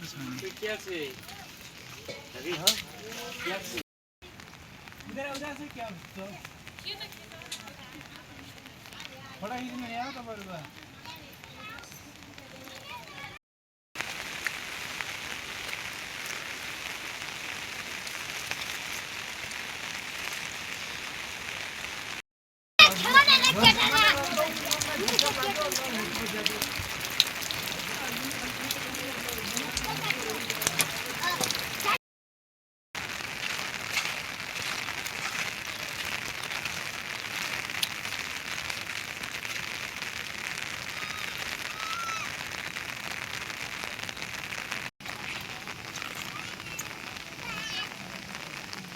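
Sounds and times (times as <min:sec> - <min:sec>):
heavy rain falling: 0:00.0 - 0:13.4, 0:14.0 - 0:22.2, 0:22.8 - 0:32.0, 0:33.0 - 0:48.9.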